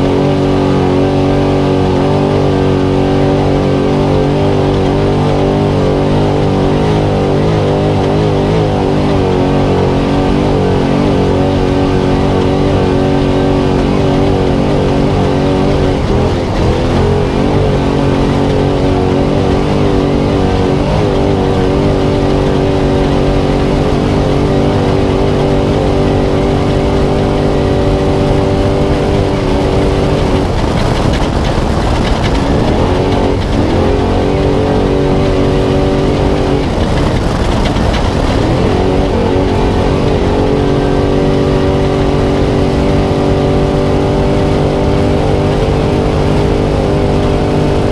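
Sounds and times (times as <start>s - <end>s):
truck engine revving high: 0.0s - 47.9s.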